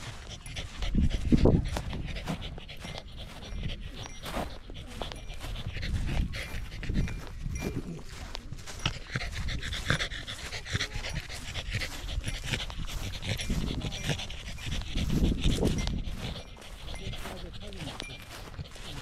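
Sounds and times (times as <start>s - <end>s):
dog panting: 0.0s - 19.0s
footsteps on grass: 0.0s - 19.0s.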